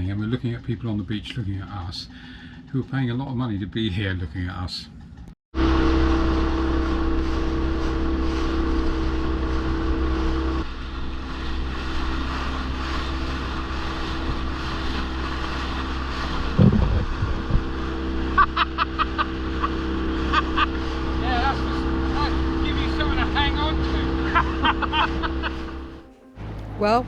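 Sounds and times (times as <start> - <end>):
small boat motor humming: 5.0 - 27.0.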